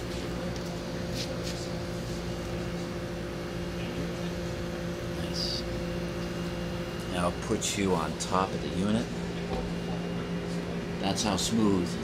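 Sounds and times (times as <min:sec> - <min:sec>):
air conditioner compressor hum: 0:00.0 - 0:12.0.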